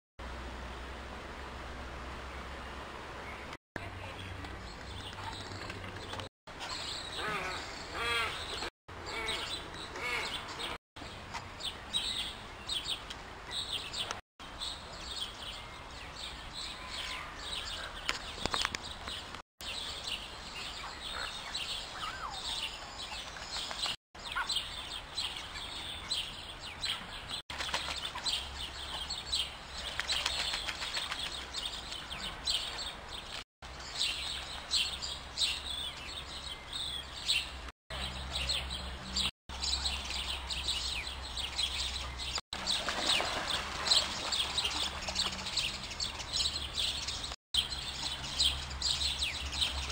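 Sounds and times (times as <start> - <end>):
birds chirping and calling: 3.2 - 49.9.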